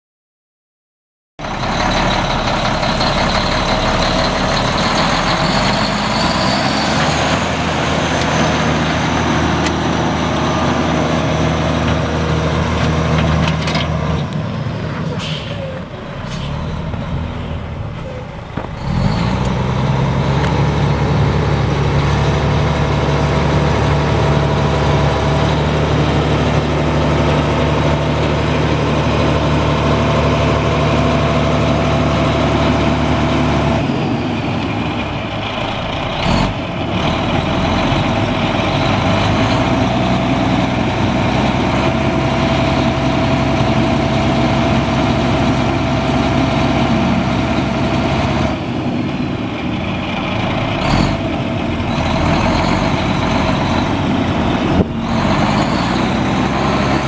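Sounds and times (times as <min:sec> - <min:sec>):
diesel truck engine idling: 0:01.4 - 0:13.2, 0:13.9 - 0:57.0.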